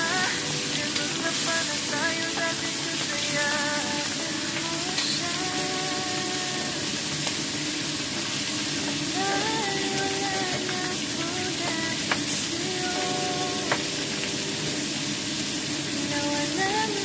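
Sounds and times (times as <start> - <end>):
faint melody: 0.0 - 17.0
fish sizzling in a wok: 0.0 - 17.0.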